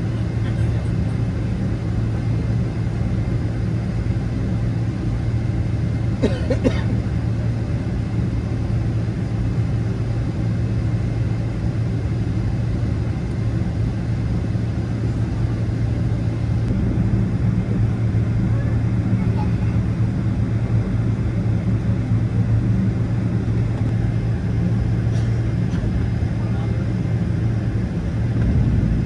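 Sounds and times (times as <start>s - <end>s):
airplane cabin drone: 0.0s - 29.0s.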